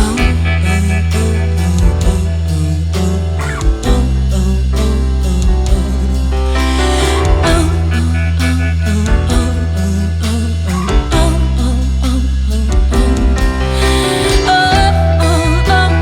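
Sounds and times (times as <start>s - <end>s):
bass line: 0.0s - 16.0s
drum kit beat: 0.0s - 16.0s
electric guitar: 0.0s - 16.0s.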